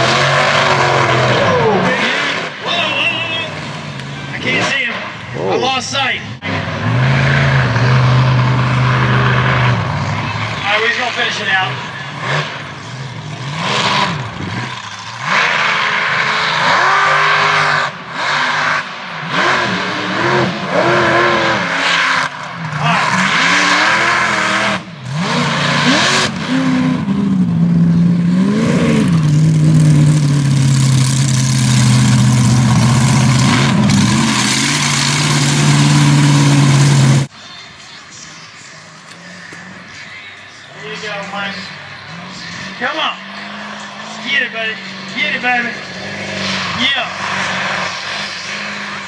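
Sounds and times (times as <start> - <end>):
truck engine revving: 0.0 - 37.4, 38.1 - 49.0.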